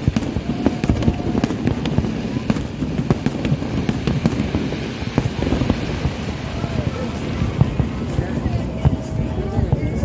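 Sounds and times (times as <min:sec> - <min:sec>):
fireworks cracks and bangs: 0:00.0 - 0:10.0
low rumble: 0:00.0 - 0:10.0.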